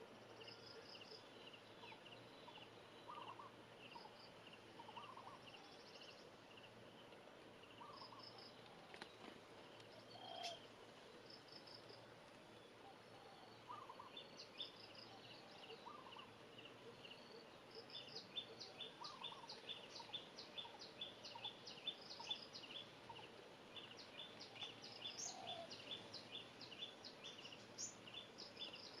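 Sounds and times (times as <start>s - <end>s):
small birds chirping: 0.0s - 29.0s
lower bird calls: 0.4s - 29.0s.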